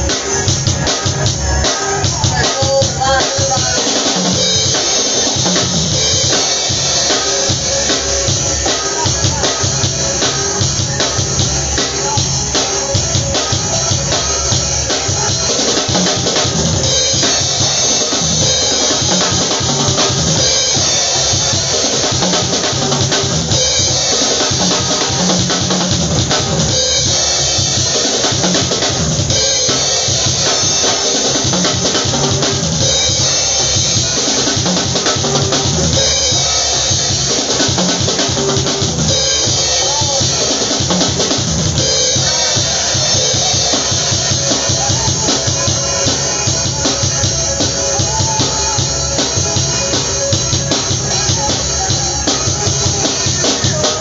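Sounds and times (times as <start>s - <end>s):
drum kit groove: 0.0s - 54.0s.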